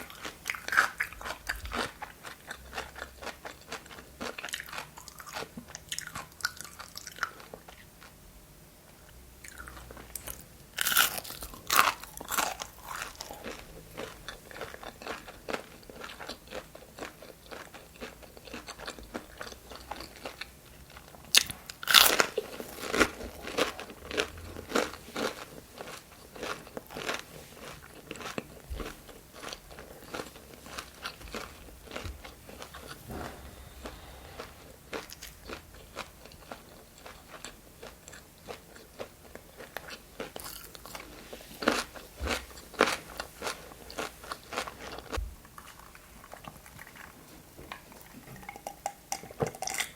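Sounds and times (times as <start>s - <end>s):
person chewing crunchy food: 0.0s - 8.2s, 9.4s - 49.9s.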